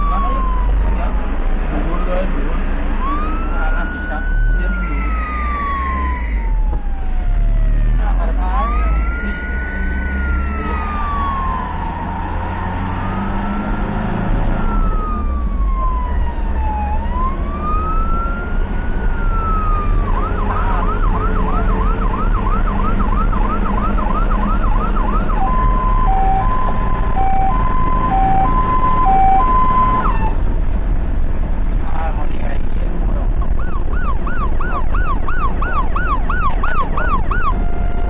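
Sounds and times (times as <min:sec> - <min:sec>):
electronic siren wailing and yelping: 0:00.0 - 0:30.4, 0:33.5 - 0:38.0
engine and road rumble: 0:00.0 - 0:38.0.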